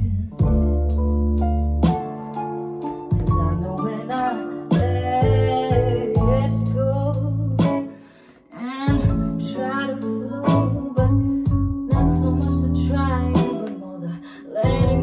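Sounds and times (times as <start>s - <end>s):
woman singing: 0.0s - 0.7s, 3.3s - 15.0s
backing beat with deep bass: 0.0s - 7.9s, 8.9s - 9.6s, 10.4s - 13.7s, 14.6s - 15.0s.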